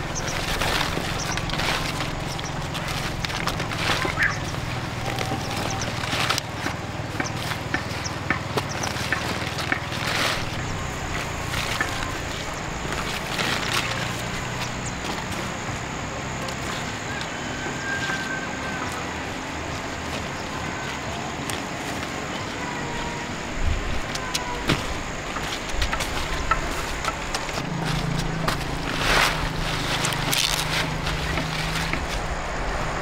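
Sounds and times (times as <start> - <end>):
stems snapping and crackling: 0.0 - 22.6, 24.0 - 33.0
foliage rustling: 0.0 - 33.0
low engine hum: 0.0 - 33.0.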